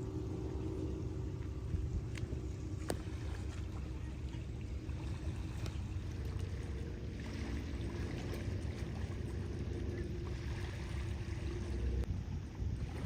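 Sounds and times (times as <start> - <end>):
low rumble and hum: 0.0 - 13.0.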